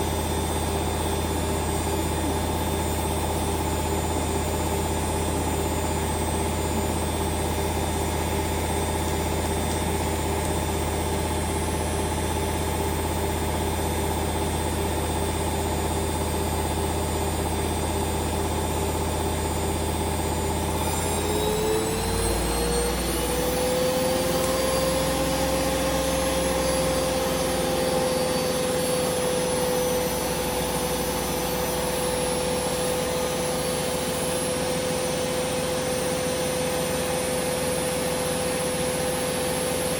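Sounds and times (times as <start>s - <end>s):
washing machine spin whine: 0.0s - 39.9s.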